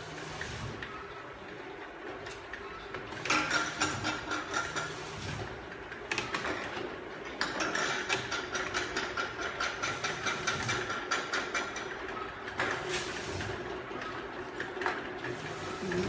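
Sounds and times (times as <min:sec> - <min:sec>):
mechanical clicking and clattering: 0:01.8 - 0:16.0.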